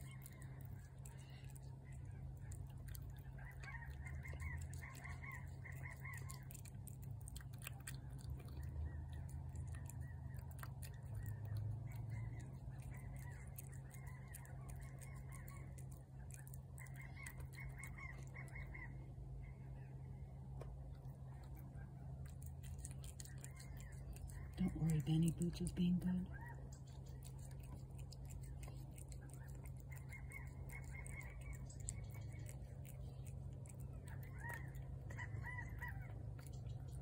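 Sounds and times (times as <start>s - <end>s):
cat eating wet food: 0.0s - 18.9s, 20.8s - 37.0s.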